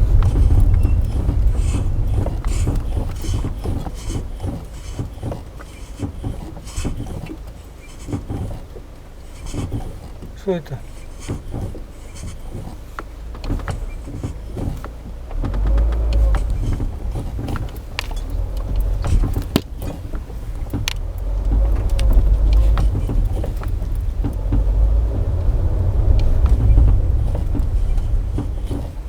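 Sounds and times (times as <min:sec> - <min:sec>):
road and drivetrain rumble: 0:00.0 - 0:29.0
suspension crunching clicks: 0:00.0 - 0:29.0.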